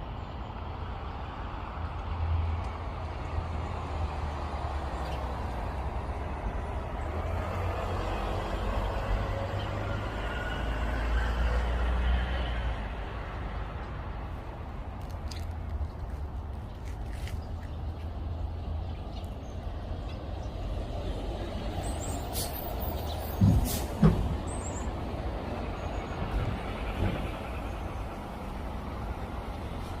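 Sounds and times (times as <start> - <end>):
road vehicle passing: 0.9 - 30.0.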